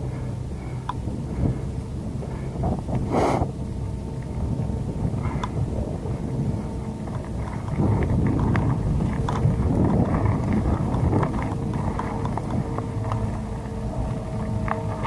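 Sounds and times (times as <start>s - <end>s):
bike rattling: 0.0s - 15.0s
bike tyres crunching on gravel: 0.0s - 15.0s
wind buffeting microphone: 0.0s - 15.0s.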